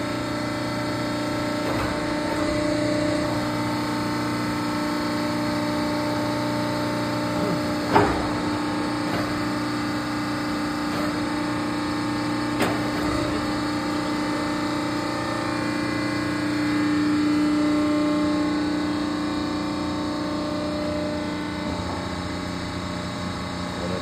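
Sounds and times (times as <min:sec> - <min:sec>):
hydraulic power unit humming: 0:00.0 - 0:24.0.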